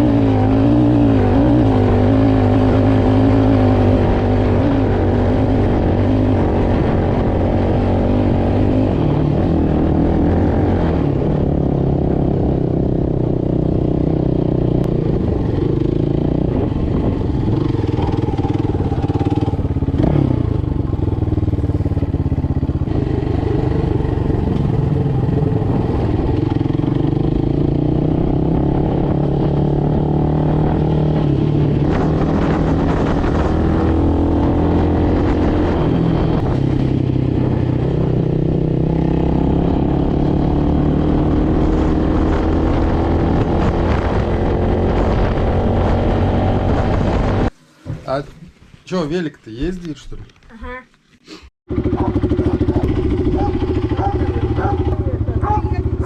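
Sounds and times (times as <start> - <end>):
motorcycle engine running: 0.0 - 48.0, 51.7 - 56.0.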